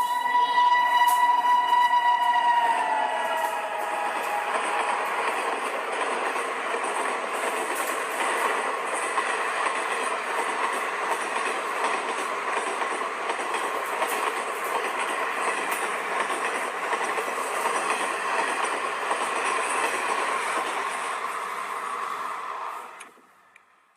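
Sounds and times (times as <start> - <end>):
train wheels rushing on rails: 0.0 - 23.8.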